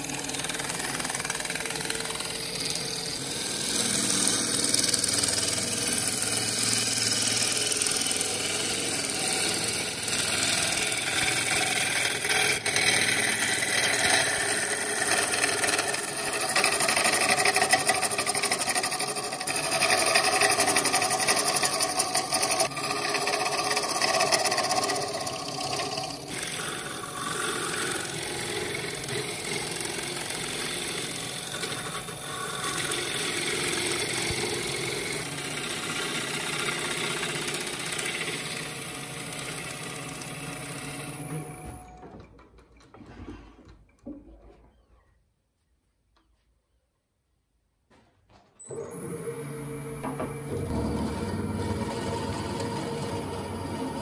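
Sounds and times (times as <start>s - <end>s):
gouge cutting wood on lathe: 0.0s - 41.8s, 49.5s - 54.0s
wood lathe running: 0.0s - 42.0s, 48.7s - 54.0s.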